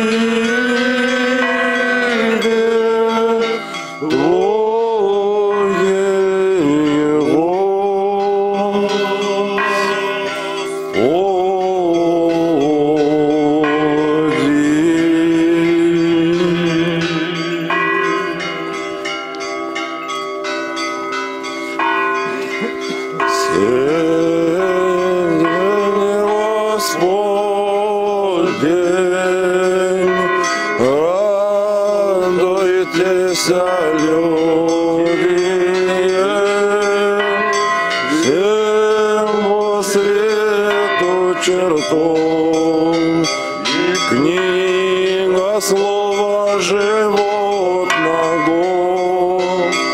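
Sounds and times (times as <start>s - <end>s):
men singing liturgical chant: 0.0s - 18.5s, 23.3s - 49.9s
church bells struck: 0.0s - 49.9s.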